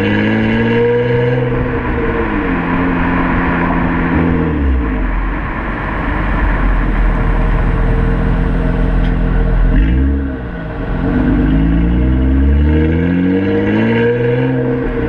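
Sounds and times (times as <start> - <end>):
car engine deep drone: 0.0 - 15.0.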